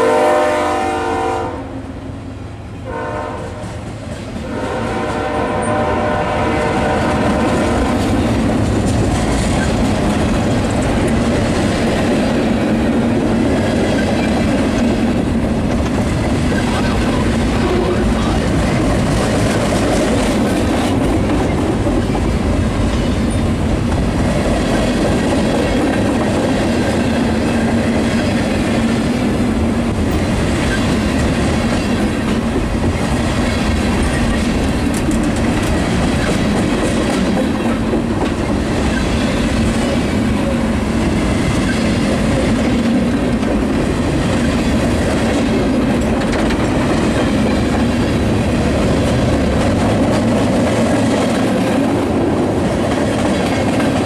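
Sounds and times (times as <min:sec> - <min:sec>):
train wheels rolling on rails: 0:00.0 - 0:54.0
rail clicks: 0:03.4 - 0:54.0.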